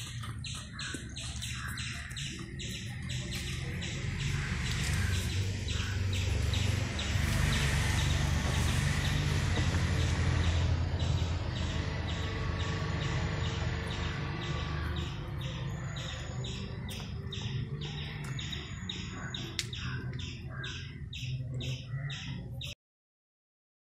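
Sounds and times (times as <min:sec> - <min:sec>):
steady chirping: 0:00.0 - 0:22.8.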